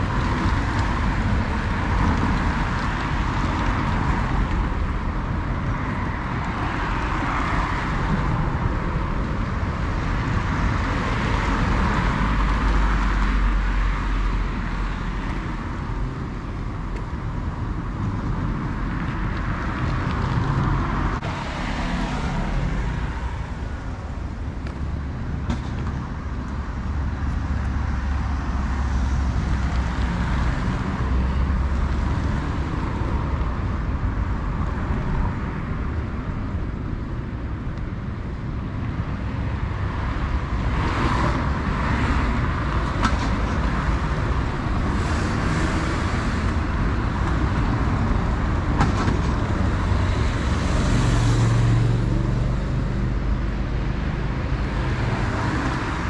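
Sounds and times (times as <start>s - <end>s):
cars and scooters passing: 0.0s - 56.0s.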